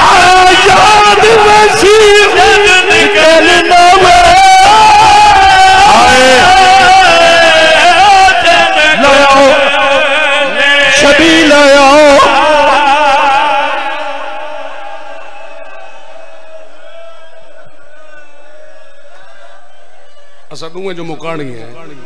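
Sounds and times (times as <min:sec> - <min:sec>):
man singing through loudspeakers: 0:00.0 - 0:19.8.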